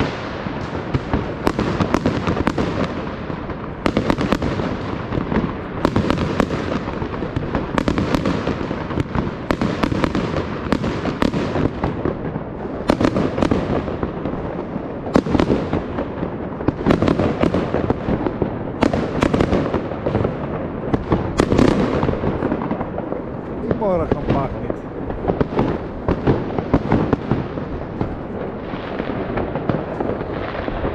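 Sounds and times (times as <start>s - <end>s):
fireworks bangs: 0.0s - 30.9s
fireworks crackling: 0.0s - 30.9s.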